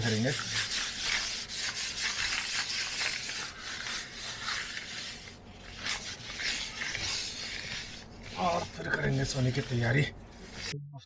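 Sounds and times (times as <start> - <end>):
floor being scrubbed by hand: 0.0 - 10.8.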